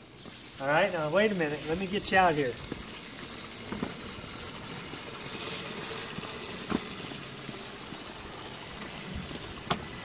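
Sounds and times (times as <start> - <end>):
small wheels rattling on concrete: 0.0 - 10.0.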